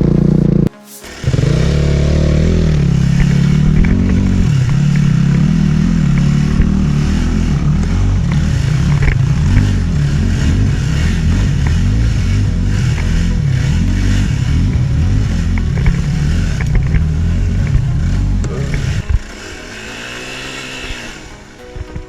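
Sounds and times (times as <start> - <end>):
dirt bike engine revving: 0.0 - 21.6.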